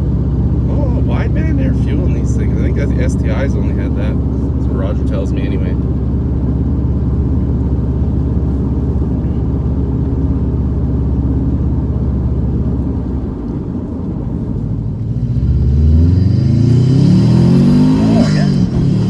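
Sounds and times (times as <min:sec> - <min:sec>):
car engine droning and revving: 0:00.0 - 0:19.0.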